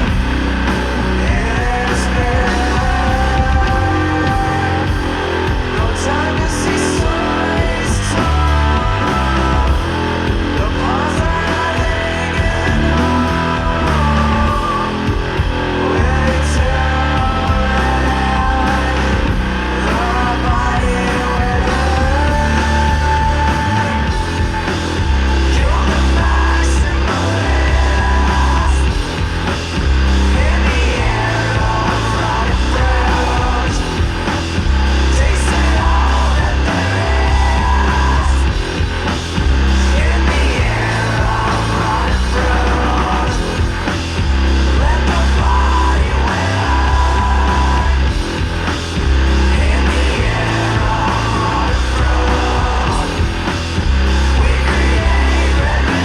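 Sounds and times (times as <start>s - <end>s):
heavy distorted metal music: 0.0s - 56.0s.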